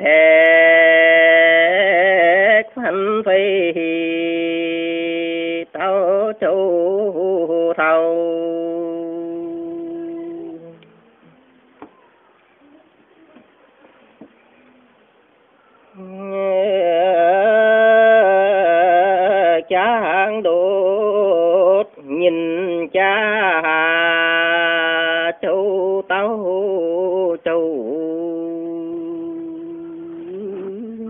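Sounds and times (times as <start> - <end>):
man singing folk song: 0.0 - 10.8, 16.0 - 31.0.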